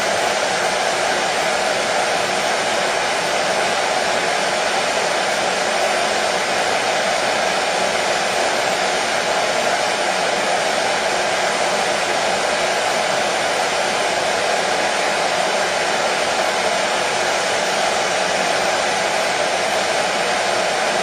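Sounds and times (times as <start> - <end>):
hair dryer running: 0.0 - 21.0.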